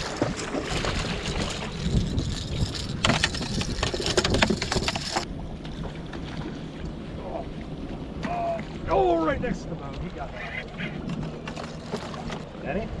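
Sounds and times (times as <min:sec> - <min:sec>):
wind on microphone: 0:00.0 - 0:11.1
water splashing: 0:00.0 - 0:13.0.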